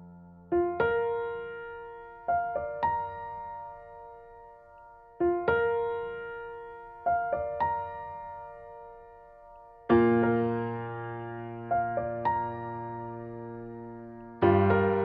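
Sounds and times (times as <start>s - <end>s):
slow soft solo piano: 0.0s - 15.0s.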